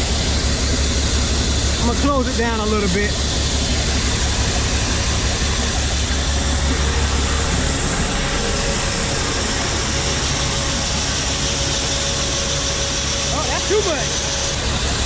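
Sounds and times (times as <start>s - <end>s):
machinery low hum: 0.0s - 15.0s.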